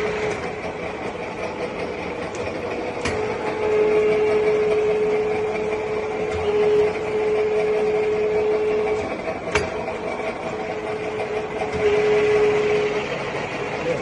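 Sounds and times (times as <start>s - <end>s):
milling machine whine: 0.0s - 14.0s.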